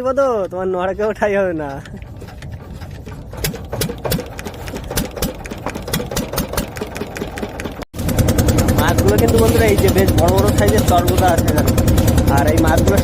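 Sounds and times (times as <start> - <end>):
boat engine starting and clattering: 0.0 - 13.0.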